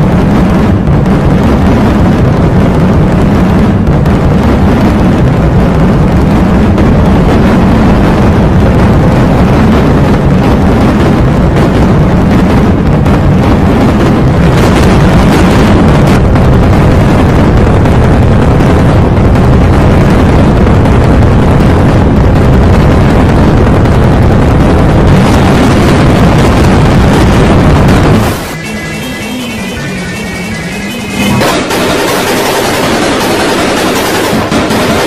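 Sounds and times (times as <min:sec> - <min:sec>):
harsh distorted noise: 0:00.0 - 0:35.0.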